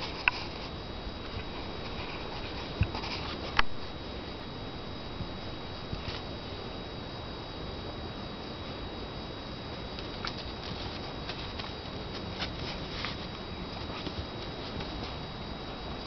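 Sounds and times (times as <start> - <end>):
faint high whine: 0.0 - 16.0
steady hiss: 0.0 - 16.0.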